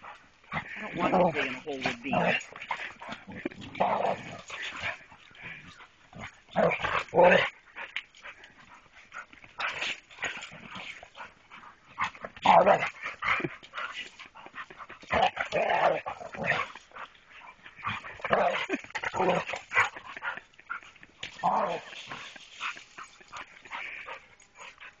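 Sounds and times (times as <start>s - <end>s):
dogs barking and yipping: 0.0s - 25.0s.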